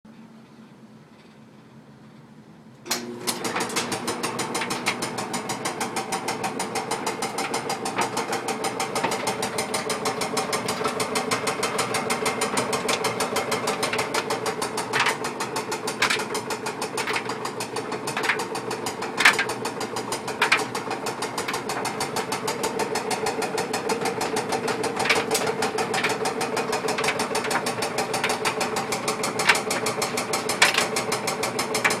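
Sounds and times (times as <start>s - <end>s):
clothes dryer ticking and humming: 0.1s - 32.0s
dryer clunks: 2.9s - 32.0s.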